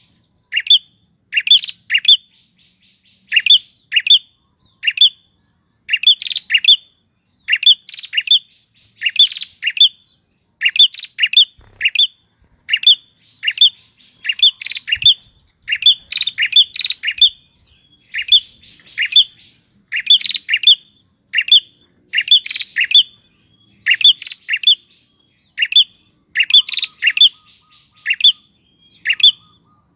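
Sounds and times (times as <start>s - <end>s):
bird chirping sharply: 0.0s - 29.9s.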